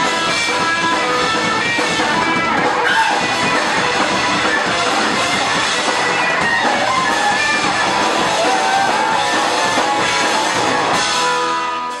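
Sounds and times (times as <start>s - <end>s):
distorted electric guitars: 0.0s - 12.0s
driving drum kit: 0.0s - 12.0s.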